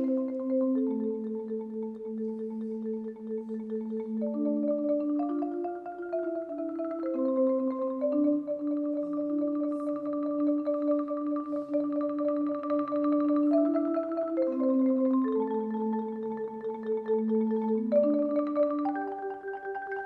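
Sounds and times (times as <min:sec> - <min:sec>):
marimba tremolo chords: 0:00.0 - 0:20.0.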